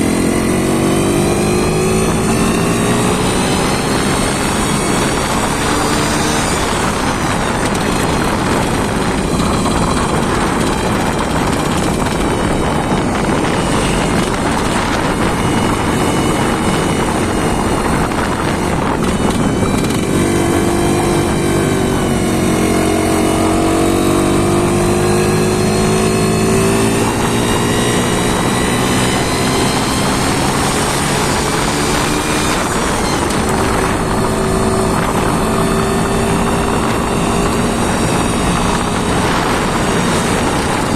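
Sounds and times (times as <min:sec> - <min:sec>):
engine running and revving: 0:00.0 - 0:40.9.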